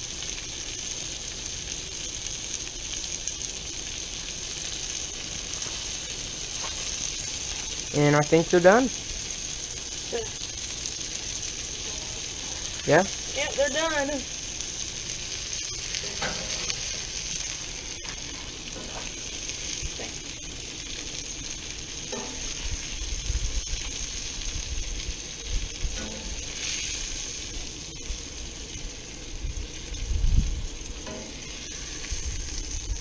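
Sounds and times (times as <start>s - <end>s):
fish fillets sizzling on a grill: 0.0s - 33.0s.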